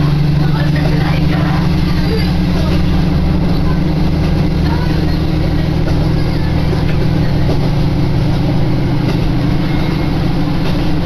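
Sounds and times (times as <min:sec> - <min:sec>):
diesel railcar engine drone: 0:00.0 - 0:11.0.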